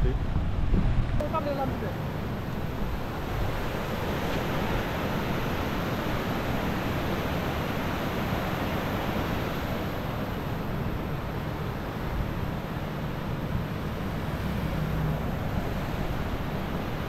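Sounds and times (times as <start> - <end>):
floodwater rushing: 1.1 - 17.0.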